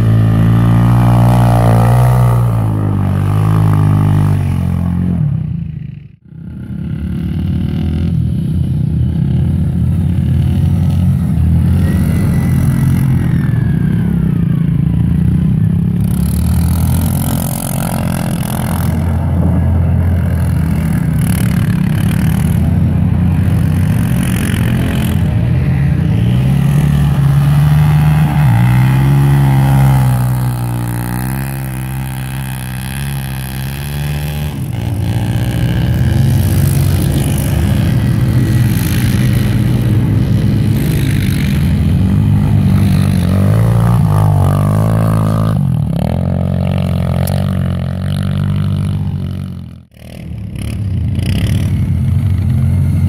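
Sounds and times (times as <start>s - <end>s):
quad bike engines revving: 0.0s - 53.0s.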